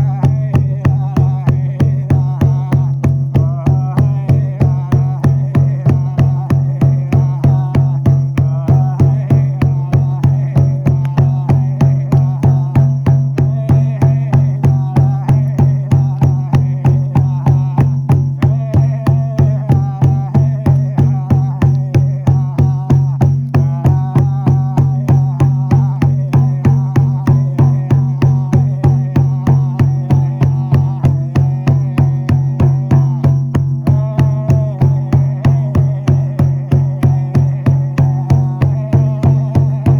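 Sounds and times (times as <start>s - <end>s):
frame drum beating: 0.0s - 39.9s.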